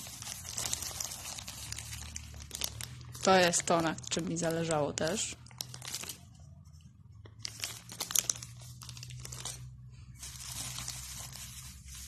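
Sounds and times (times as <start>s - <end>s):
hand rustling in foil envelope: 0.0s - 6.2s, 7.4s - 12.0s
plastic packaging crinkling: 0.0s - 6.3s, 7.3s - 12.0s.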